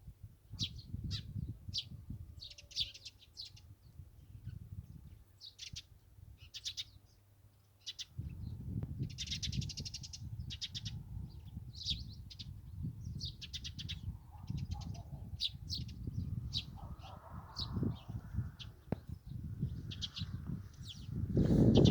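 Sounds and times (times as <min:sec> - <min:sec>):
small birds chirping: 0:00.5 - 0:21.9.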